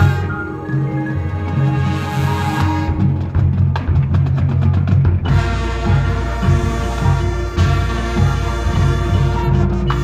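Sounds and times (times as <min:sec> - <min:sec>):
marching band playing: 0:00.0 - 0:10.0.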